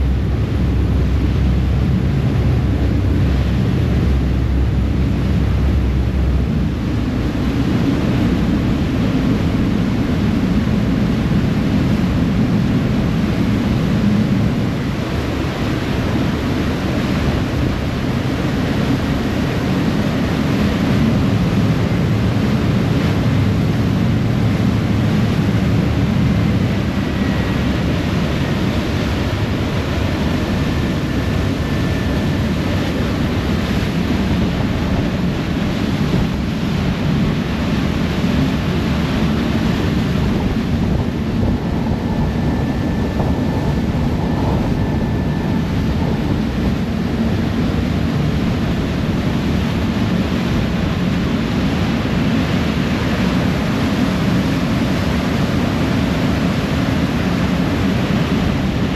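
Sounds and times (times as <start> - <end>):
ferry engines rumbling: 0.0 - 58.9
wake churning water: 0.0 - 58.9
wind buffeting microphone: 0.0 - 58.9.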